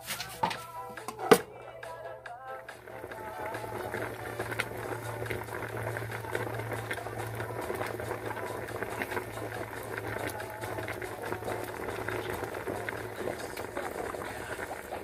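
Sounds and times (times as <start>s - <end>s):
low steady hum: 0.2s - 15.0s
water boiling hard: 2.7s - 15.0s.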